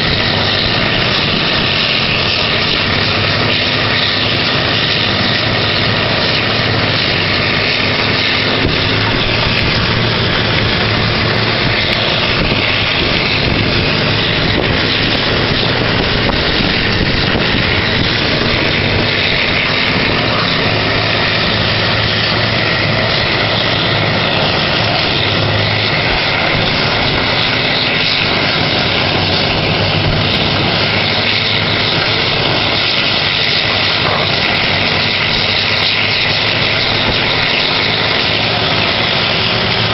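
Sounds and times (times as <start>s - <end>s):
heavy diesel machinery drone: 0.0s - 39.9s.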